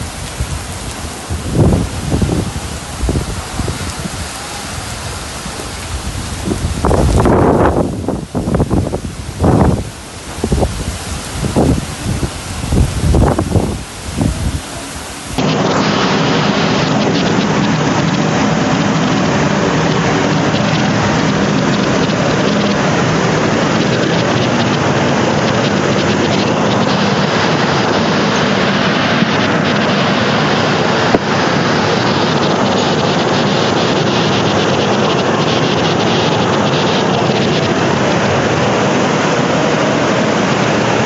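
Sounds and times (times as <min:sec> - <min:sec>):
heavy rain hissing: 0:00.0 - 0:41.0
wind buffeting microphone: 0:00.0 - 0:41.0.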